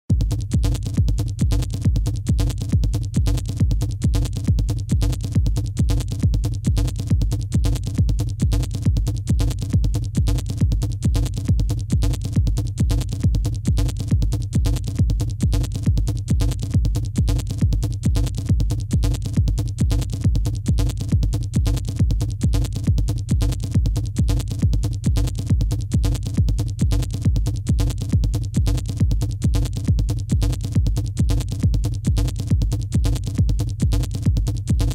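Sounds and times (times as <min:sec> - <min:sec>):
hi-hat ticks: 0:00.1 - 0:34.9
kick drum beat: 0:00.1 - 0:34.9
sustained low bass tones: 0:00.1 - 0:34.9.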